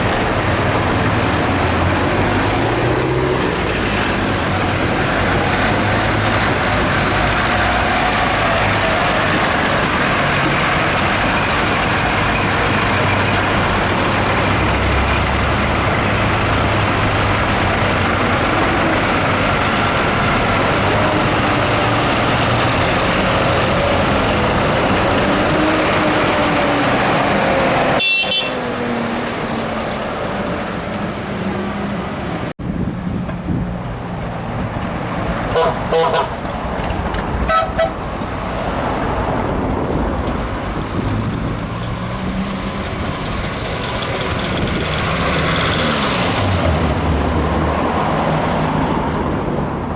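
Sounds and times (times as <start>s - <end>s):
car engines running: 0.0s - 49.9s
tractor engine running: 0.0s - 49.9s.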